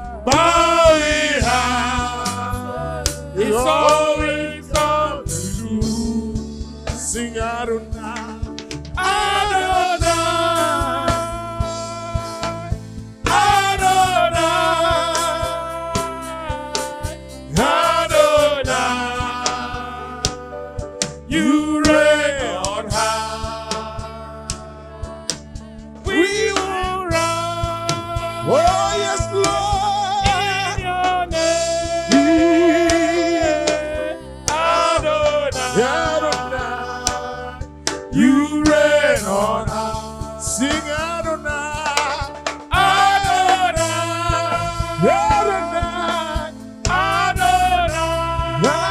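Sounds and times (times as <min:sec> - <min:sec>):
choir singing: 0:00.0 - 0:06.3, 0:09.0 - 0:25.1, 0:26.0 - 0:48.9
bass: 0:00.0 - 0:48.9
steady drum beat: 0:00.0 - 0:48.9.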